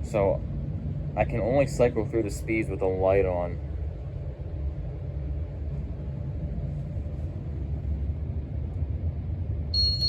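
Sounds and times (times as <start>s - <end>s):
ceiling fan running: 0.0s - 10.0s.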